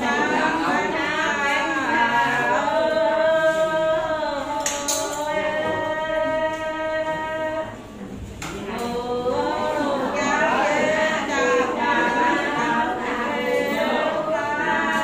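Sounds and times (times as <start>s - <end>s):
voices singing unaccompanied: 0.0s - 15.0s.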